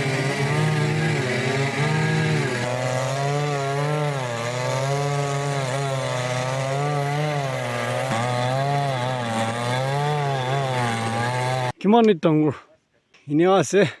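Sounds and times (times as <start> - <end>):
chainsaw cutting wood: 0.0 - 11.8.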